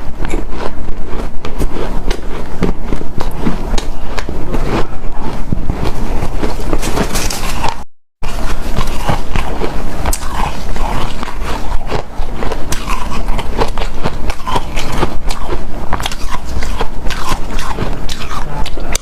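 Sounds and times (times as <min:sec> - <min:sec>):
chewing crunchy ice: 0:00.1 - 0:19.0.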